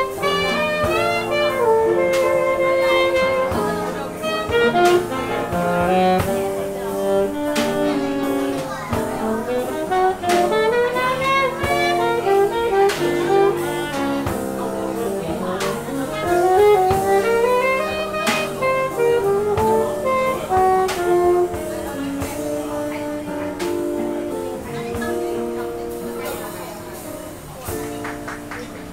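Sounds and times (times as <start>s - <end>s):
saxophone jazz solo: 0.0s - 28.4s
drum kit with cymbal hits: 0.0s - 28.9s.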